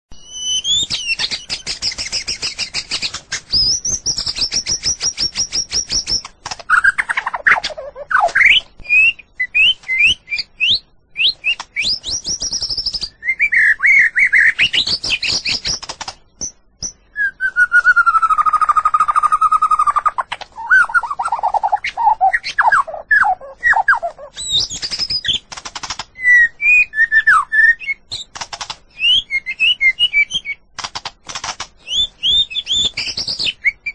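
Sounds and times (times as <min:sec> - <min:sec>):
songbird singing trills and whistles: 0:00.1 - 0:30.8, 0:31.4 - 0:33.9.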